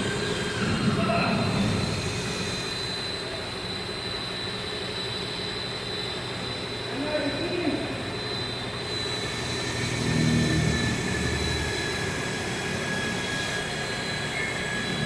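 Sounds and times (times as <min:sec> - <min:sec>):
high whine: 0:00.0 - 0:15.0
mechanical drone: 0:00.0 - 0:15.0.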